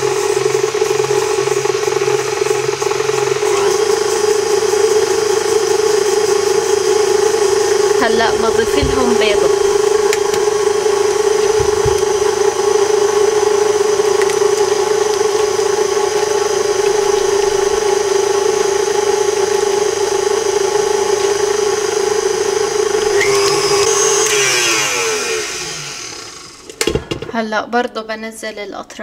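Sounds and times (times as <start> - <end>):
stand mixer whisking: 0.0 - 26.9.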